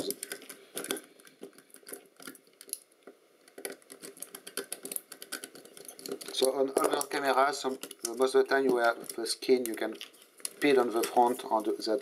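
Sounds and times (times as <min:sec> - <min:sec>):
clicks and scrapes of camera parts: 0:00.0 - 0:11.5.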